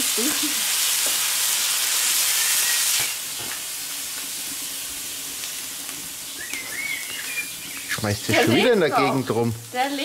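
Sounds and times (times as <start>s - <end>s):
shrimps sizzling on a hot plate: 0.0s - 10.0s.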